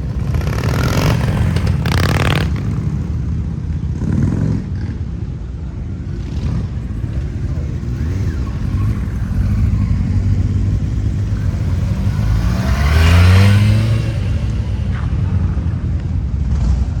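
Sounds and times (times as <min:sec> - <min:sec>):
motorcycle accelerating: 0:00.0 - 0:17.0
motorcycle engines rumbling: 0:00.0 - 0:17.0.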